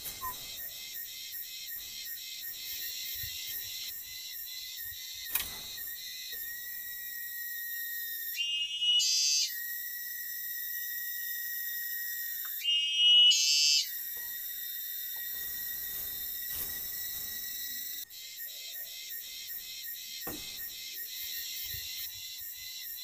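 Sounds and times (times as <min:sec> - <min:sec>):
insect chorus drone: 0:00.0 - 0:23.0
shrill insect calls: 0:00.0 - 0:23.0.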